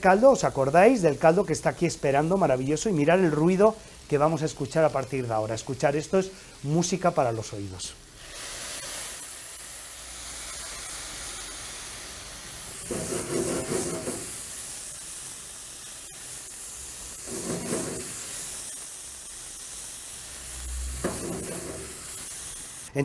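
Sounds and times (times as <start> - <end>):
broth sizzling in hot pan: 0.0 - 23.0.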